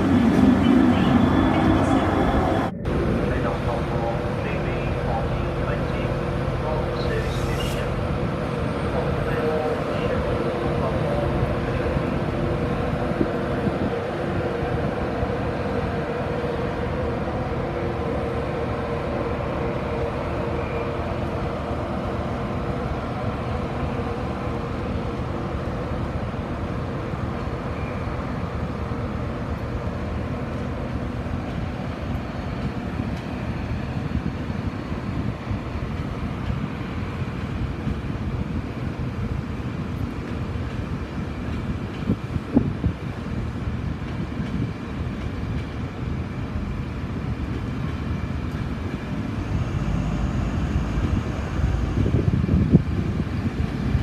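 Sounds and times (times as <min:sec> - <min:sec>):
locomotive humming: 0:00.0 - 0:54.0
train wheels rumbling on rail: 0:00.0 - 0:54.0.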